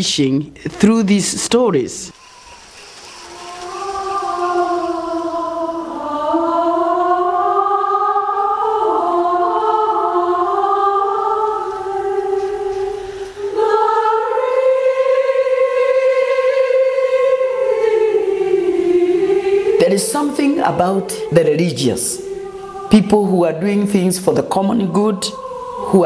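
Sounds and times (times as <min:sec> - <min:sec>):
choir singing in harmony: 0:00.7 - 0:26.0.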